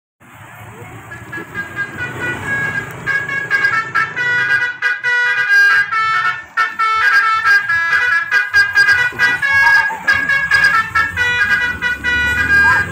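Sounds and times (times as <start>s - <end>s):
low engine rumble: 0.2s - 12.9s
horn playing quick tune: 1.6s - 12.9s.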